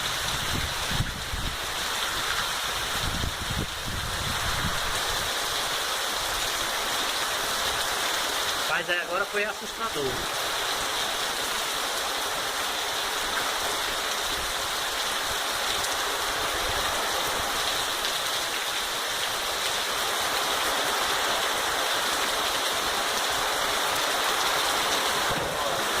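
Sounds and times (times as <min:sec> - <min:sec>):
heavy rain: 0:00.0 - 0:26.0
wind: 0:00.0 - 0:26.0.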